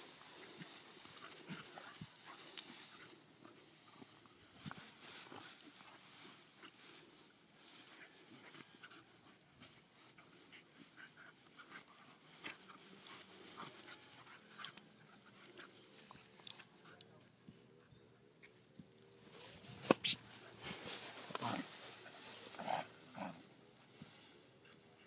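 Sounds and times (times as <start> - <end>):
puppies scuffling in grass: 0.0 - 17.6, 18.6 - 25.0.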